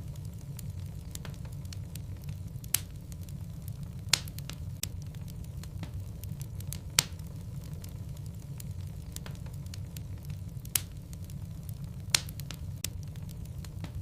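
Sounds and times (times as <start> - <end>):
flames rumbling in fireplace: 0.0 - 14.0
wood crackling: 0.0 - 14.0.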